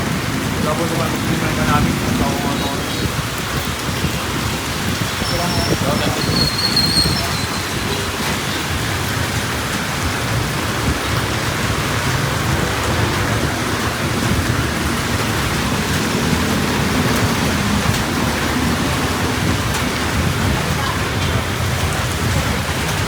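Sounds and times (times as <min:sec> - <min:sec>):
heavy rain on street: 0:00.0 - 0:23.0.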